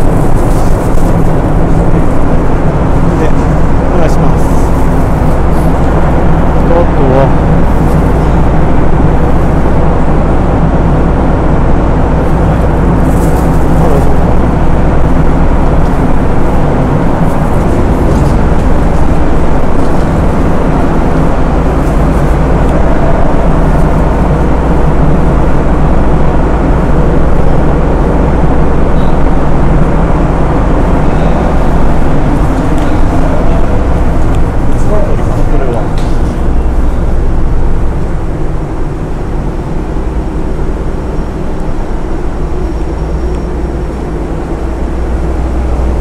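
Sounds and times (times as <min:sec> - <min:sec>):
ferry machinery droning: 0:00.0 - 0:46.0.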